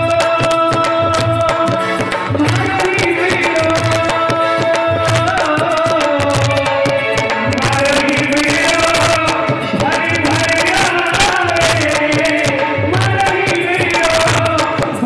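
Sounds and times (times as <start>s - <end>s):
hand drums: 0.0s - 15.0s.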